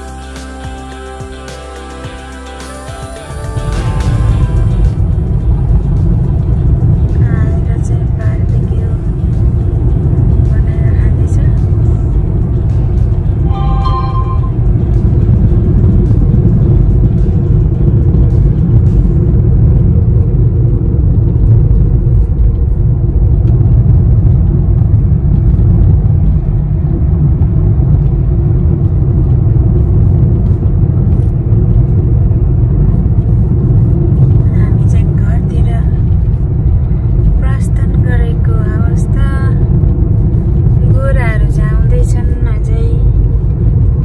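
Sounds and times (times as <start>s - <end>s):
moving car rumble: 0.0s - 44.0s.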